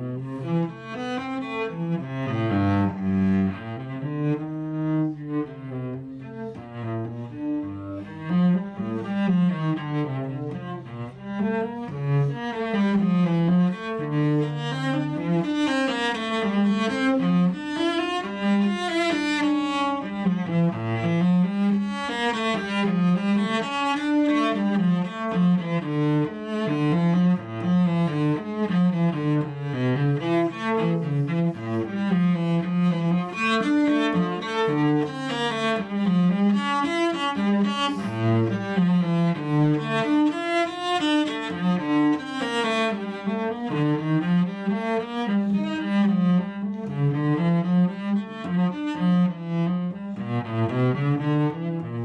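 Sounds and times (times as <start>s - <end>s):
bowed cello playing: 0.0s - 52.0s.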